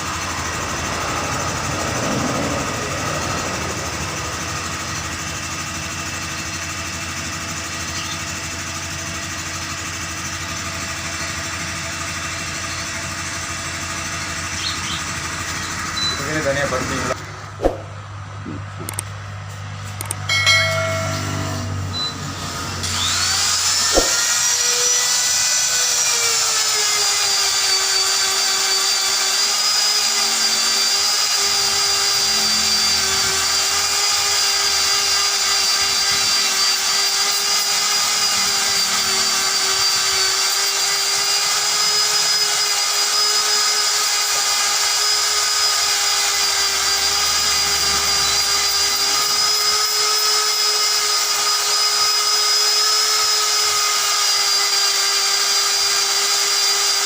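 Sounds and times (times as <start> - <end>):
power tool spinning with whine: 0.0 - 17.9, 20.0 - 57.0.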